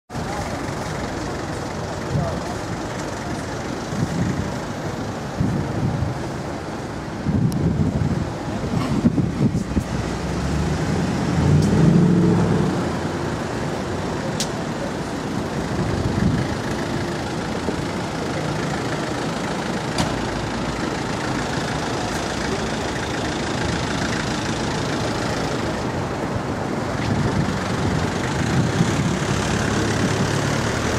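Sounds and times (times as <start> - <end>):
traffic rumble: 0.1 - 30.9
vehicles passing: 0.1 - 30.9.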